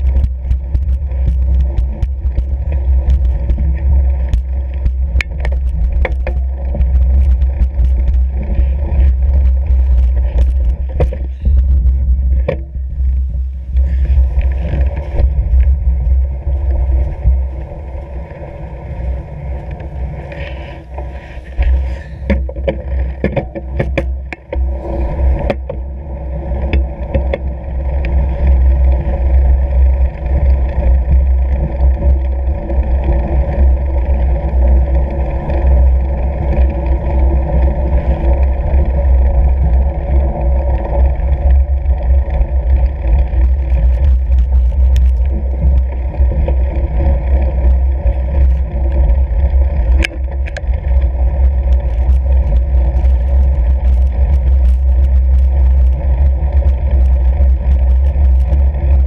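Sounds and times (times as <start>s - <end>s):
tyre noise on snow: 0.0s - 59.0s
wind buffeting microphone: 0.0s - 59.0s.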